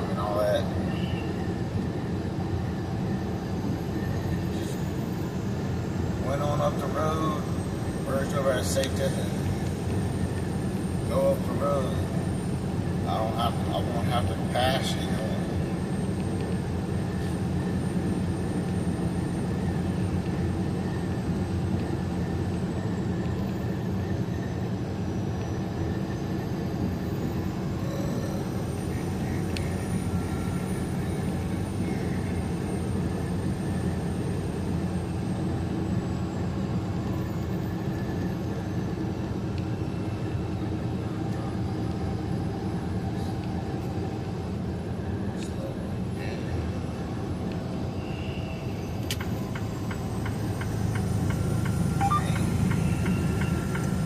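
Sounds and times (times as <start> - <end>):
truck engine and road noise: 0.0 - 54.0.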